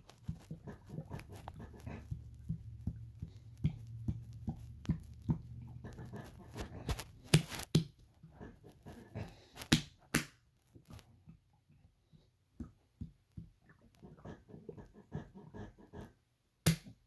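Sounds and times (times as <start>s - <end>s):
stomach gurgling and sloshing: 0.0s - 9.5s, 10.8s - 16.1s.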